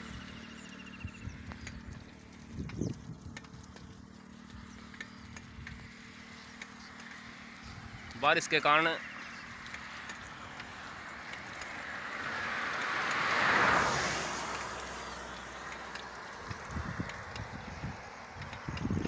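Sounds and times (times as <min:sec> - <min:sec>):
car passing on wet road: 0:03.4 - 0:19.0.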